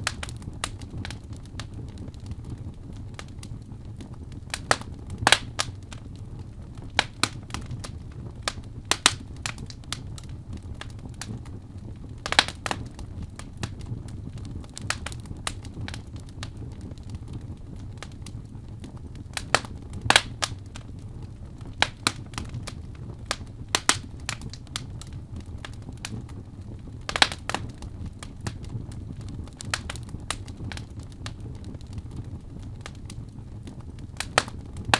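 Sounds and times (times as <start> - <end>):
fire crackling in fireplace: 0.0 - 34.9.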